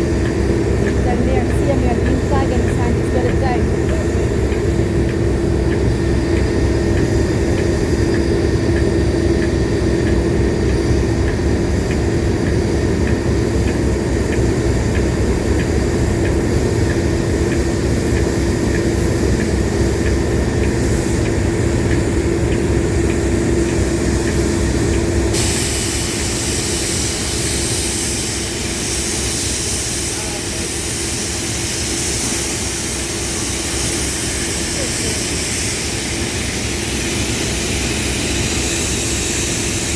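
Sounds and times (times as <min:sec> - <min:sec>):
train rumble and hum: 0:00.0 - 0:39.9.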